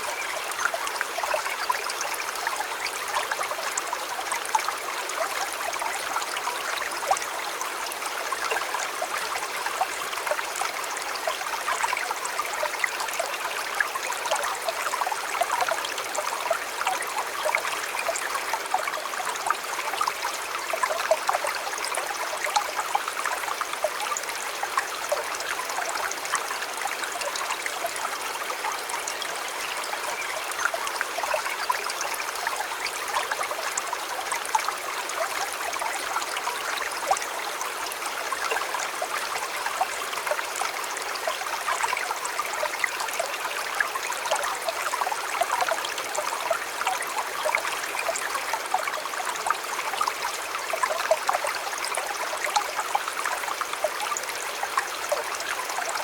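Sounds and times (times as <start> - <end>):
river water trickling over stones: 0.0 - 56.0.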